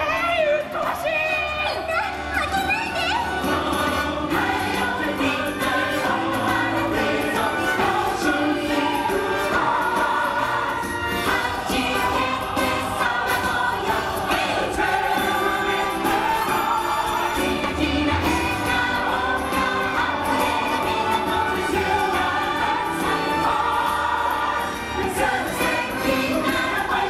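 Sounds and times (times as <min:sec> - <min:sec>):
choir singing with musical backing: 0:00.0 - 0:27.0.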